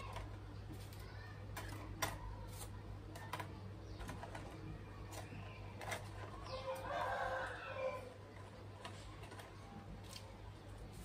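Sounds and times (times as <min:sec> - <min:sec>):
plastic parts clicking and knocking: 0:00.0 - 0:07.0, 0:08.3 - 0:10.4.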